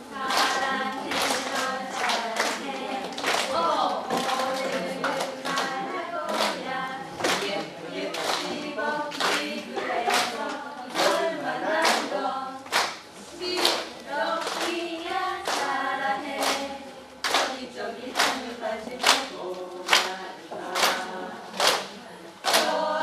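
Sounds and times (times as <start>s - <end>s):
group singing unaccompanied: 0.0s - 23.0s
hand claps: 0.2s - 6.6s, 7.2s - 14.8s, 15.4s - 17.6s, 18.2s - 22.8s.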